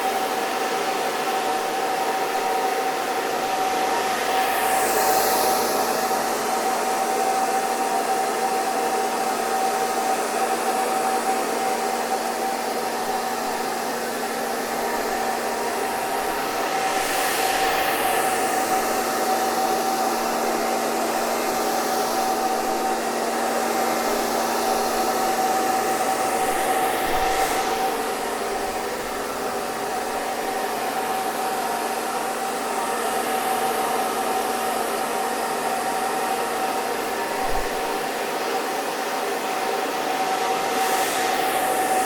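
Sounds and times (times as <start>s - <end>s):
hair dryer running: 0.0s - 42.0s.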